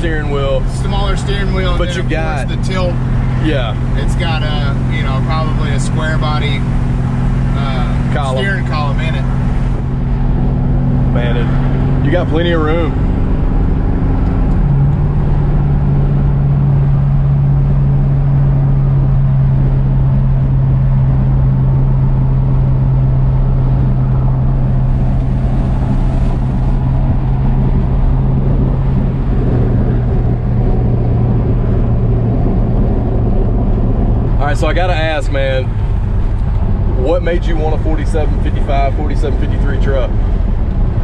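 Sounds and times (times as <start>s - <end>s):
road noise: 0.0s - 41.0s
truck engine low drone: 0.0s - 41.0s.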